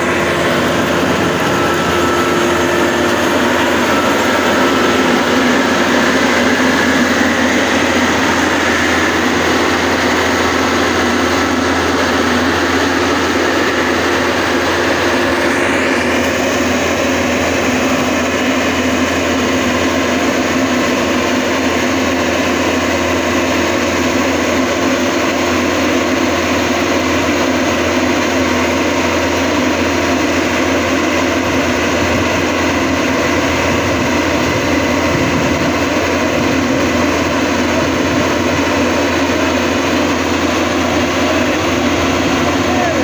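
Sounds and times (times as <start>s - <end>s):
combine harvester engine running: 0.0s - 43.0s.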